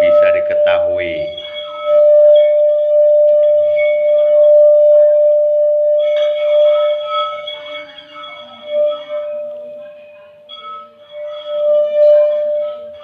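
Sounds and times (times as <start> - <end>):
singing bowl ringing tone: 0.0 - 13.0.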